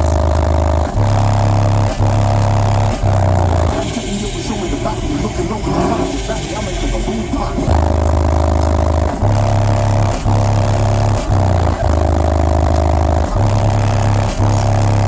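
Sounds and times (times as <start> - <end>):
subwoofer playing deep bass: 0.0 - 15.0.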